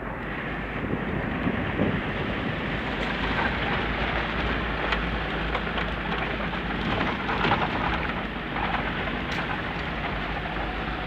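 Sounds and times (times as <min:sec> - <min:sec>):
engine and tyres rumbling on dirt: 0:00.0 - 0:11.0.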